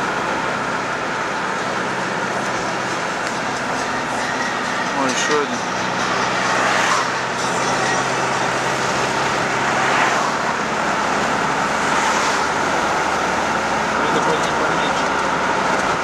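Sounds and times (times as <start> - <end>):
low engine hum: 0.0 - 16.0
tyres and traffic rushing: 0.0 - 16.0.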